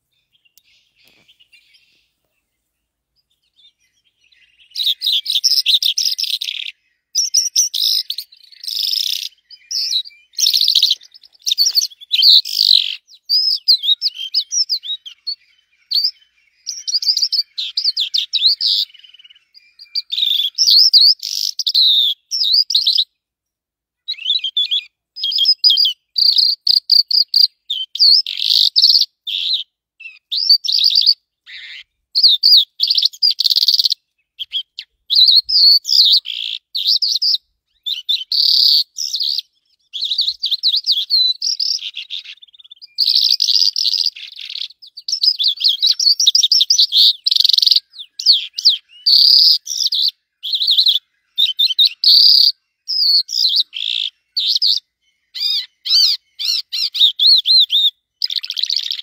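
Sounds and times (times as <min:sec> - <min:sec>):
small bird twittering: 0:00.0 - 0:23.1, 0:24.0 - 0:59.0.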